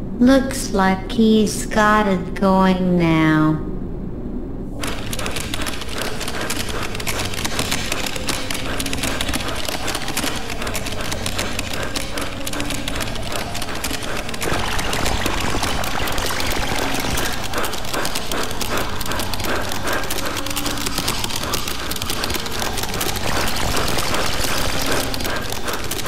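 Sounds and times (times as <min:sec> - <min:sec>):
fast typing on keyboard: 0:04.8 - 0:26.0.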